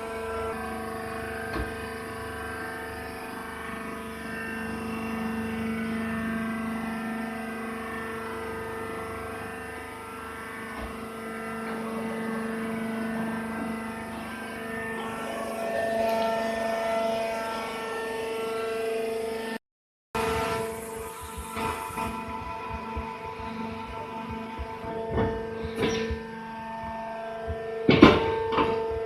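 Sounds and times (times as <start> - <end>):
baler machine droning: 0.0 - 19.6, 20.2 - 29.0.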